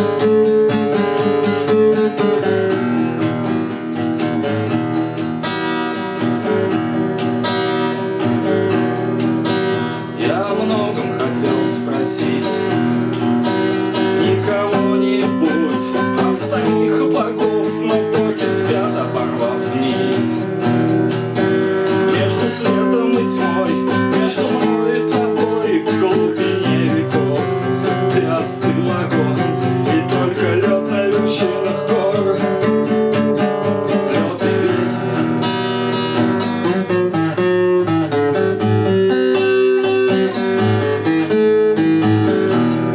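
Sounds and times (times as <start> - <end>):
acoustic guitar strumming chords: 0.0 - 42.9.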